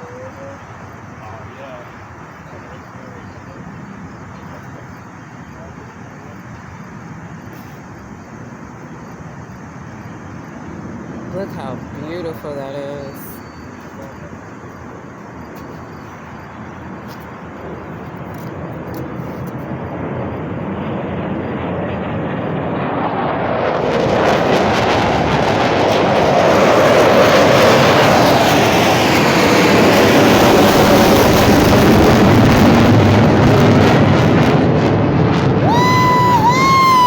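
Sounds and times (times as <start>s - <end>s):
airplane engines flying over: 0.0s - 37.0s.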